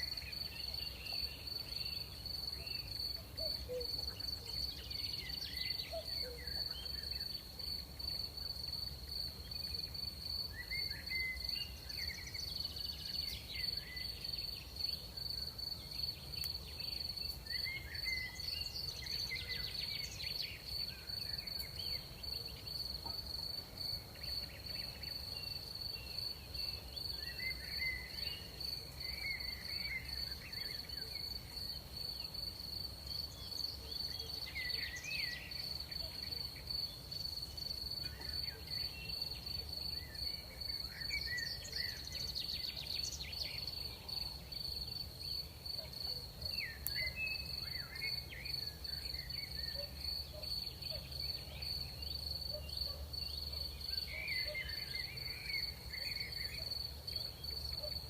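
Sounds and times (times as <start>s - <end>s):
crickets trilling: 0.0s - 58.0s
insect chirps: 0.0s - 58.0s.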